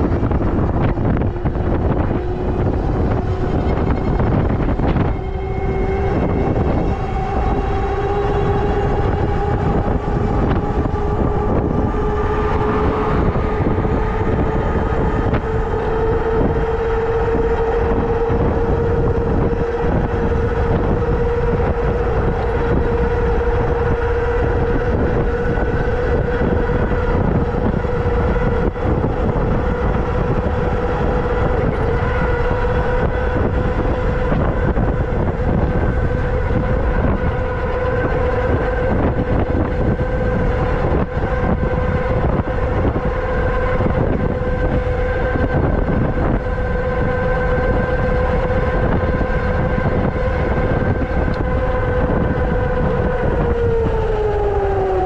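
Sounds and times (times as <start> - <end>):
electric motor whining: 0.0 - 55.0
wind noise on microphone: 0.0 - 55.0.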